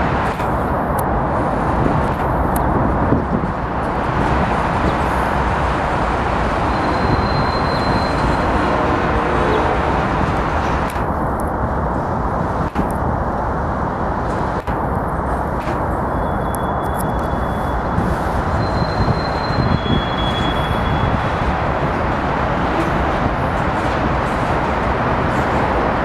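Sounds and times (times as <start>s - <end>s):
freight train rolling past: 2.7s - 26.0s.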